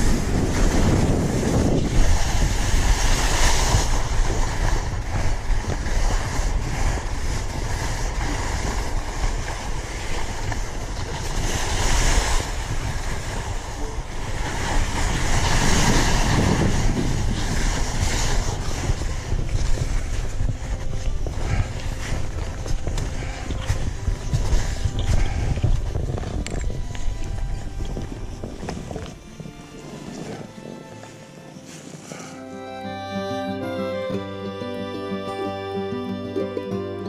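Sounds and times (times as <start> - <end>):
wind over microphone: 0.0 - 32.4
skis hissing and scraping on snow: 0.0 - 32.6.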